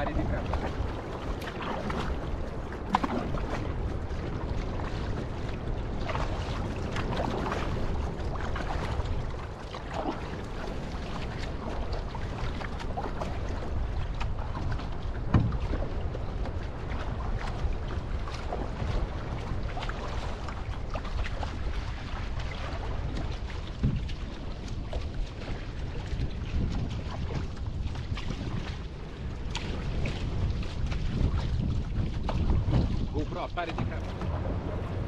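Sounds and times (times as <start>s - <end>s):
water splashing along hull: 0.0s - 35.0s
wind rumble on microphone: 0.0s - 35.0s.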